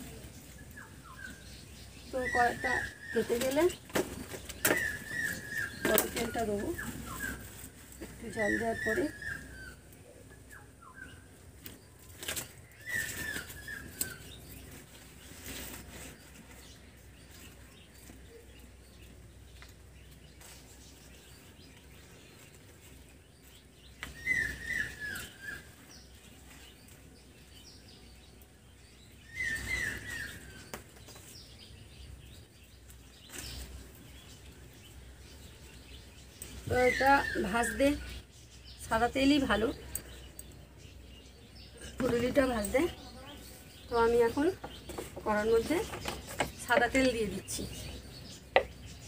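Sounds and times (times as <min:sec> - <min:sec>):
bird chirping: 0:00.0 - 0:49.0.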